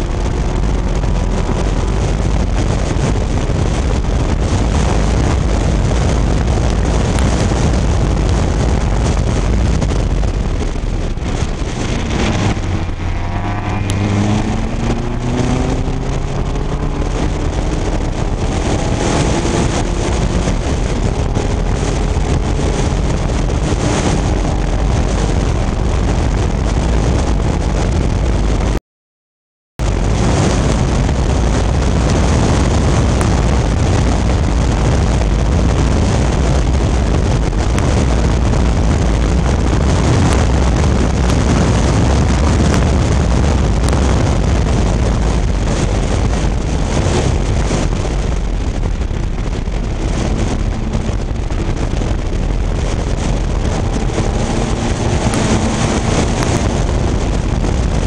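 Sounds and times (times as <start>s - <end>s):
race car engine running hard: 0.0s - 28.8s, 29.8s - 58.0s
wind noise on microphone: 0.0s - 28.8s, 29.8s - 58.0s.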